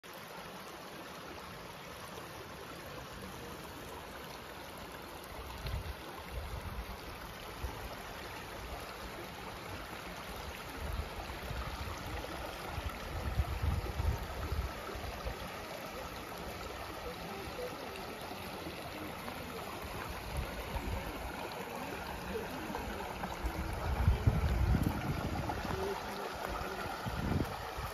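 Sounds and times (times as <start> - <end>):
stream rushing: 0.0 - 27.9.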